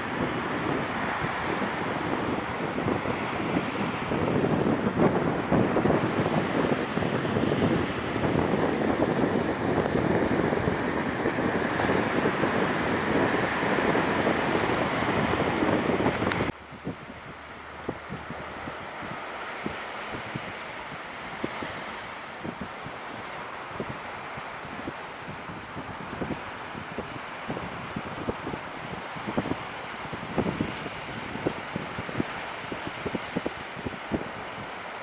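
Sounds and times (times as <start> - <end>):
surf rushing: 0.0 - 16.6, 17.4 - 35.0
wind buffeting microphone: 0.0 - 35.0.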